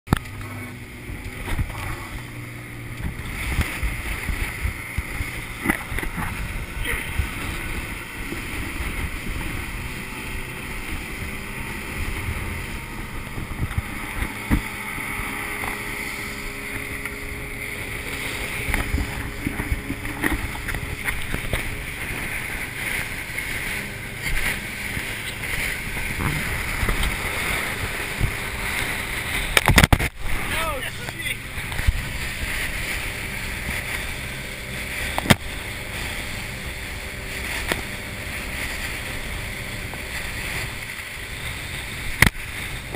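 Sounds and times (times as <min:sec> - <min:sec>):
boat engine: 0:00.0 - 0:42.9
wind: 0:00.0 - 0:42.9
hull thudding on waves: 0:00.1 - 0:42.9
rushing water: 0:00.1 - 0:42.9.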